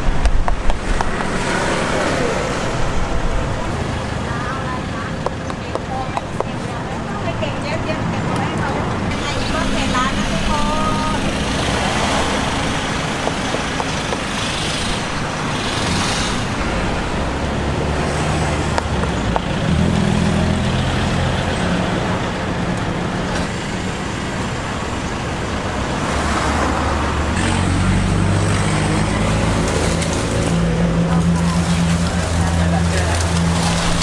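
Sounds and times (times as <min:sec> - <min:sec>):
vehicle engines humming: 0:00.0 - 0:34.0.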